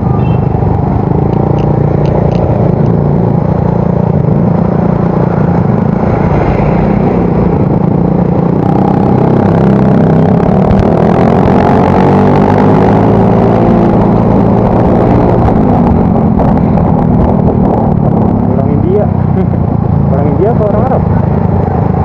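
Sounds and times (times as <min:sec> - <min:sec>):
wind noise on microphone: 0:00.0 - 0:22.0.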